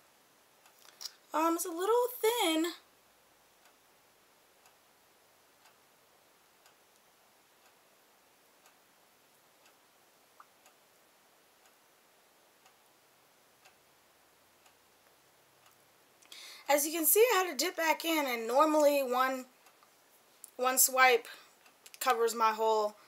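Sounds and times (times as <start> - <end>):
soft ticking: 0.1 - 23.0.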